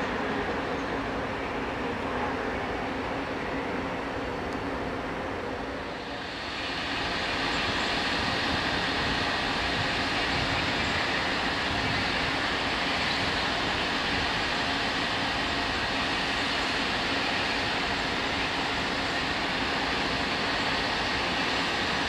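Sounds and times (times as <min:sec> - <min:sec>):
electric locomotive humming: 0:00.0 - 0:22.0.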